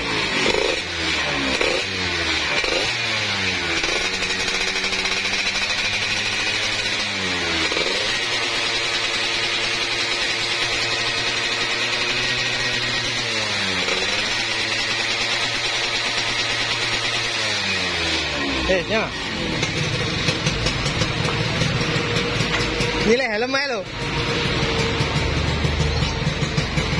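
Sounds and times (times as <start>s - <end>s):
two-stroke engine revving and idling: 0.0s - 26.9s.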